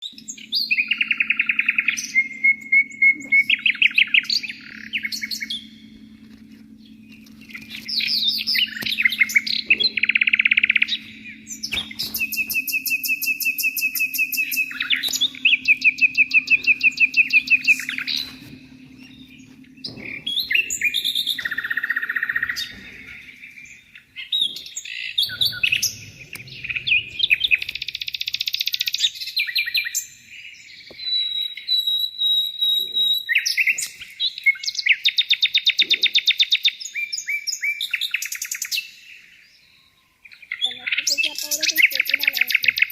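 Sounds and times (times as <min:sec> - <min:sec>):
small birds chirping and trilling: 0:00.0 - 0:42.9.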